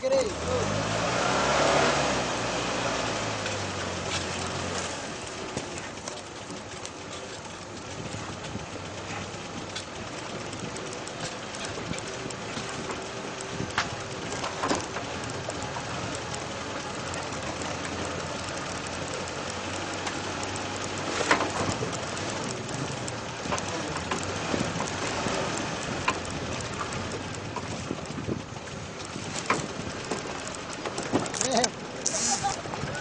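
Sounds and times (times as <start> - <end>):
vehicle engine and road noise: 0.0 - 33.0.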